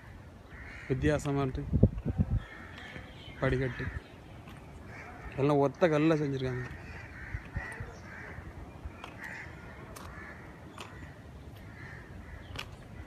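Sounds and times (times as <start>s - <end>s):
crows cawing: 0.0s - 1.5s, 2.4s - 13.0s.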